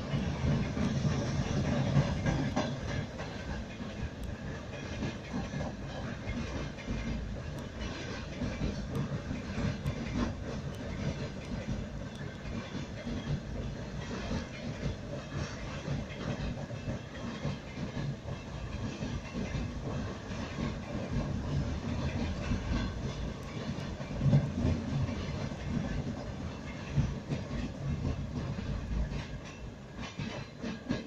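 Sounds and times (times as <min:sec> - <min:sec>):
train wheels rumbling on rails: 0:00.0 - 0:31.0
wheels clicking over rail joints: 0:00.0 - 0:31.0.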